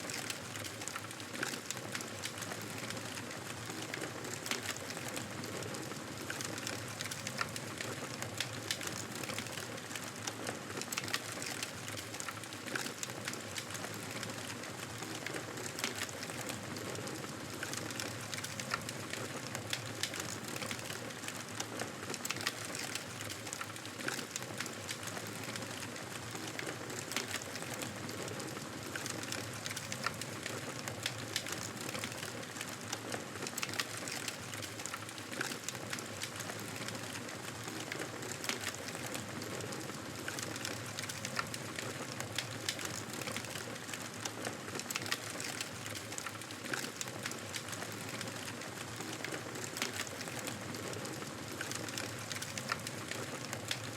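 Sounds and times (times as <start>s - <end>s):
fire crackling in a fireplace: 0.0s - 53.9s.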